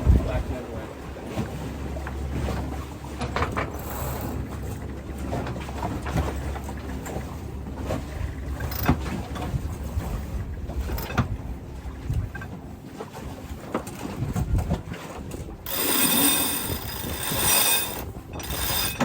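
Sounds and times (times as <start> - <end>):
boat knocks and clatters: 0.0 - 19.0
wind and water rumble: 0.0 - 19.0.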